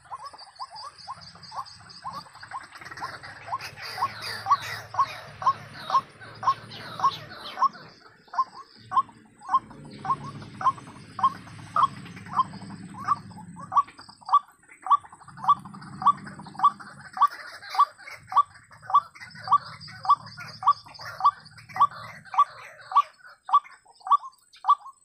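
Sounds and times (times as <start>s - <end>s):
waterhen calling: 0.0s - 25.0s.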